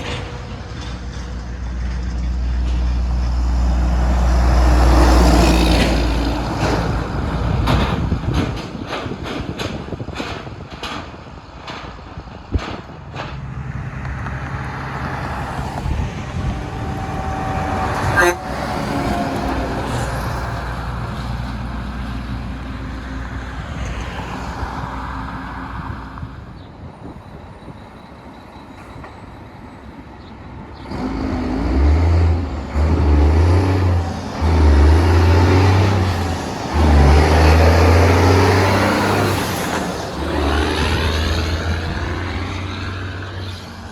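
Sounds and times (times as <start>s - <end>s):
truck engine accelerating: 0.0s - 9.6s, 11.6s - 26.5s, 30.8s - 43.9s
heavy diesel trucks passing: 0.0s - 43.9s.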